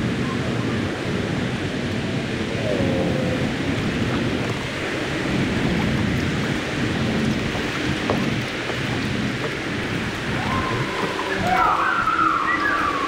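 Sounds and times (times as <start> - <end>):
highway traffic roar: 0.0 - 13.0.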